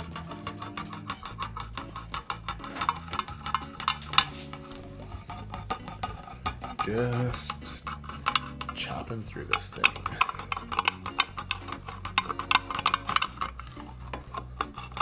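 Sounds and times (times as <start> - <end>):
can opener cutting tin lid: 0.0 - 15.0.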